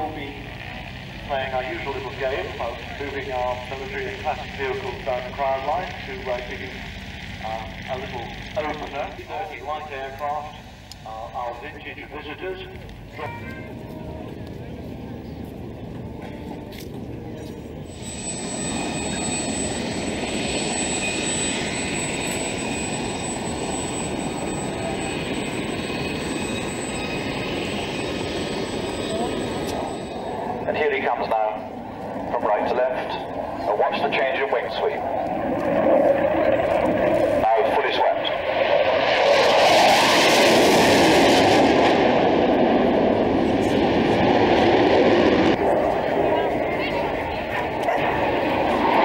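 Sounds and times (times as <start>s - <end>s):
jet aircraft roar: 0.0s - 49.0s.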